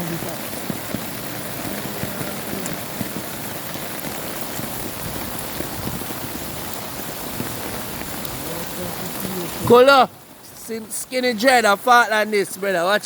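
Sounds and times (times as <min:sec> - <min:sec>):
heavy rain pouring: 0:00.0 - 0:13.0
raindrops ticking: 0:00.0 - 0:13.0.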